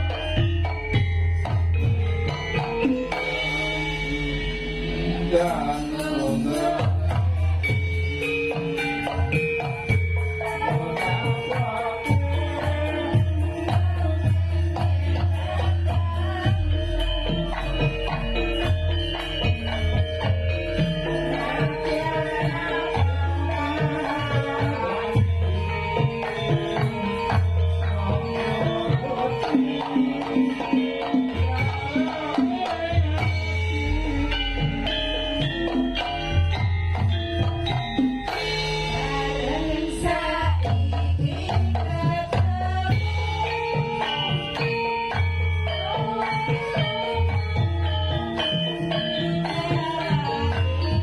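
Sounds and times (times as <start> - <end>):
ringing metallophone tones: 0.0 - 51.0.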